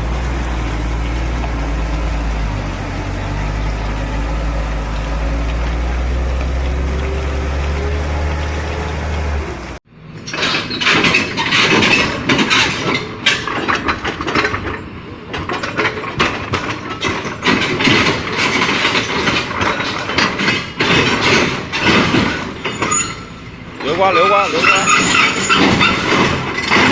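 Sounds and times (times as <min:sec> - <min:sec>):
heavy vehicle engine rumbling: 0:00.0 - 0:26.9.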